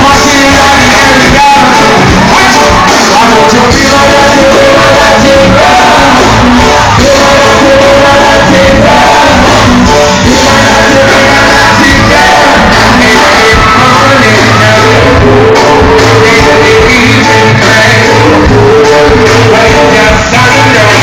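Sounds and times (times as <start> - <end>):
band playing loud: 0.0 - 21.0
lead vocalist singing: 0.0 - 21.0.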